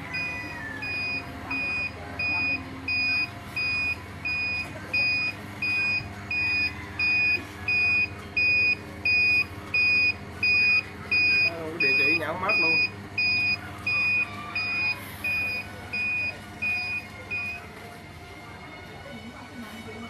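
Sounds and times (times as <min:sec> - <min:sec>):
electronic alarm buzzer beeping: 0:00.1 - 0:17.6.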